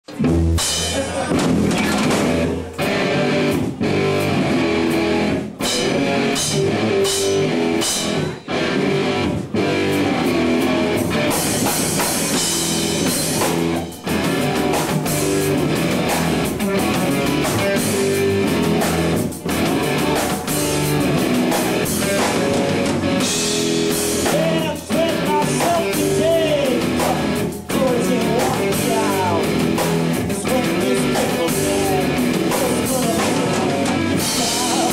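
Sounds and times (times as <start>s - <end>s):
drum kit: 0.0s - 34.9s
electric guitar: 0.0s - 34.9s
rock song: 0.0s - 34.9s.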